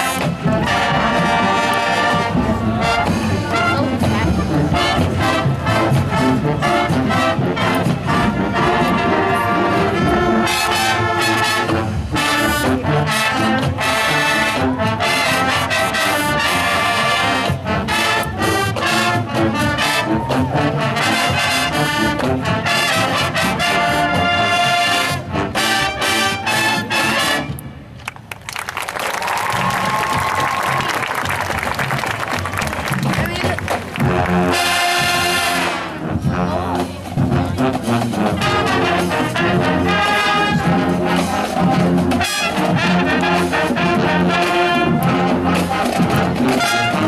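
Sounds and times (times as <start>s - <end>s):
loud brass: 0.0s - 27.6s, 29.5s - 47.0s
marching band playing: 0.0s - 47.0s.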